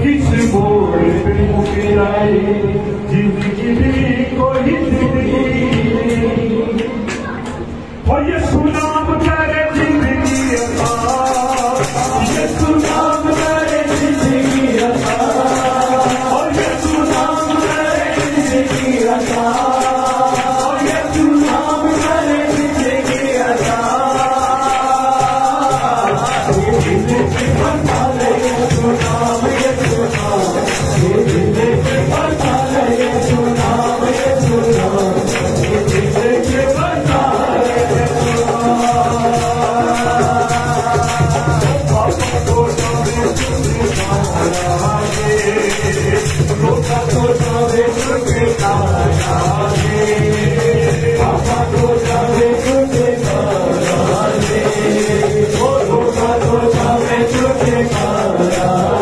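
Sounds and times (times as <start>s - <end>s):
men singing into microphones: 0.0s - 59.0s
steady percussion rhythm: 0.0s - 59.0s.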